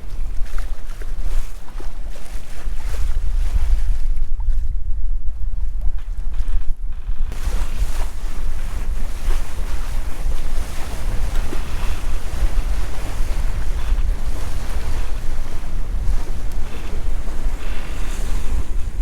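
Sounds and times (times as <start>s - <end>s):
water rushing along hull: 0.0s - 19.0s
wind buffeting microphone: 0.0s - 19.0s.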